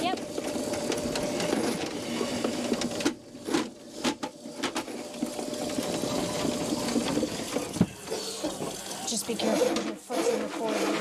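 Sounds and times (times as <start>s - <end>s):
drain cleaner whirring rattle: 0.0s - 11.0s.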